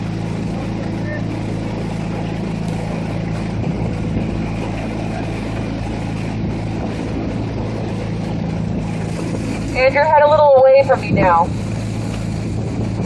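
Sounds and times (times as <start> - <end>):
outboard motor humming: 0.0 - 13.0.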